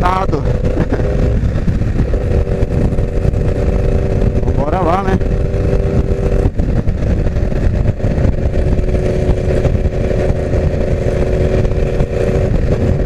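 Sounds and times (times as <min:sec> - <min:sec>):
motorcycle engine cruising: 0:00.0 - 0:13.0
wind noise: 0:00.0 - 0:13.0.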